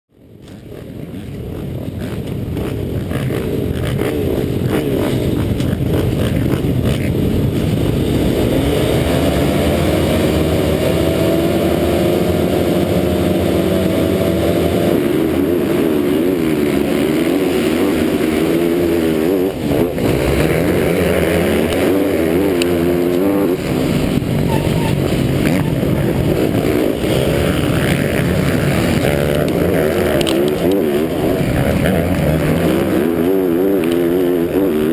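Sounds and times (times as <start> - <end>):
motocross bike engine revving: 0.4 - 34.9.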